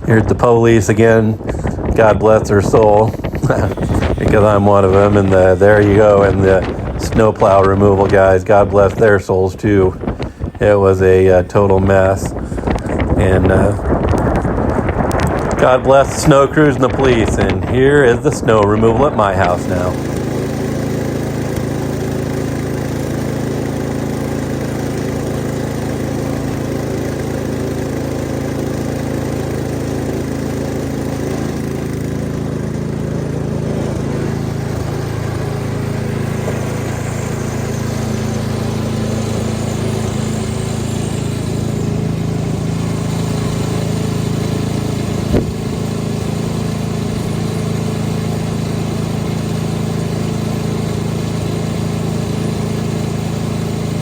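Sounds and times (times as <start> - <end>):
snow blower engine running: 0.0 - 54.0.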